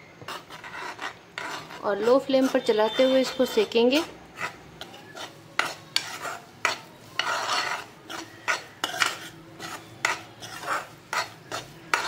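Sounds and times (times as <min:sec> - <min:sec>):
metal spoon scraping metal pan: 0:00.1 - 0:12.0.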